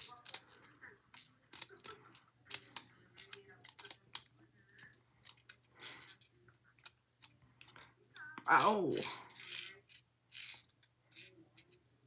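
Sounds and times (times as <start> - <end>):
toy game clicks and taps: 0.0 - 11.8.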